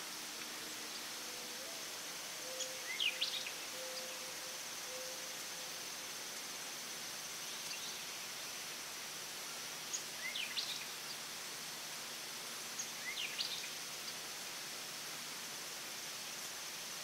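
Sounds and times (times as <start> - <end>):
insects droning: 0.0 - 17.0
open field ambience hiss: 0.0 - 17.0.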